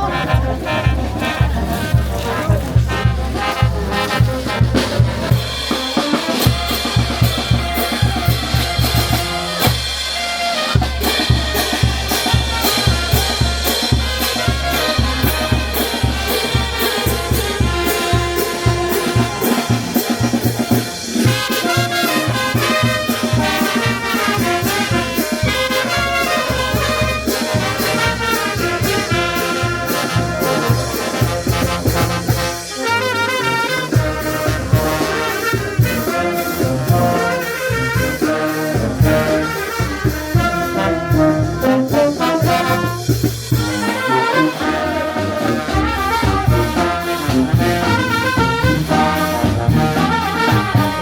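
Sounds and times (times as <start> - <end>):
brass band playing: 0.0 - 51.0.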